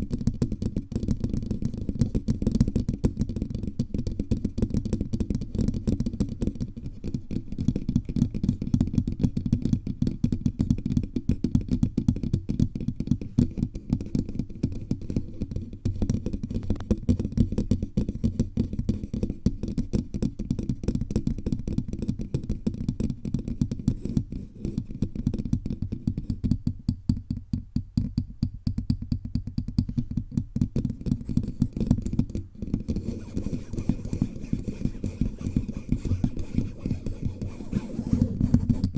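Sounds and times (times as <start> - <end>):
fingertips tapping on microphone: 4.5 - 38.9.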